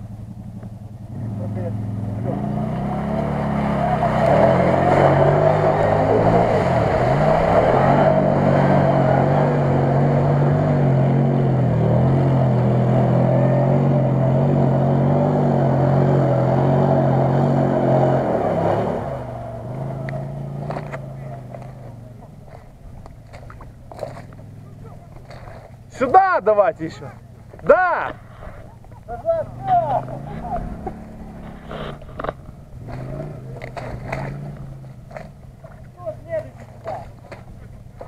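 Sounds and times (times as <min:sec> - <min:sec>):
driving through mud and water: 0:00.0 - 0:38.0
off-road vehicle engine revving: 0:00.0 - 0:38.0.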